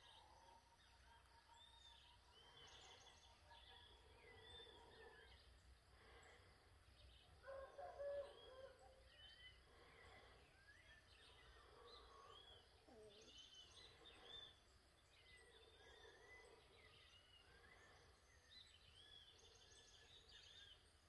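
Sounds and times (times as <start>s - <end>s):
small birds chirping: 0.0s - 7.7s, 8.3s - 21.0s.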